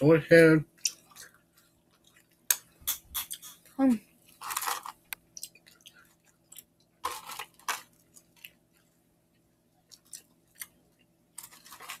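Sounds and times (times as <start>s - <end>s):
people chewing and lip smacks: 0.7s - 12.0s.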